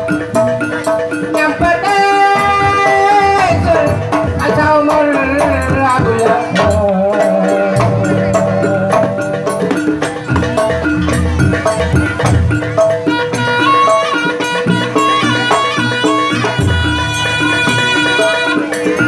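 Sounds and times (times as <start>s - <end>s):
drums and percussion: 0.0s - 19.0s
gamelan metallophones melody: 0.0s - 19.0s.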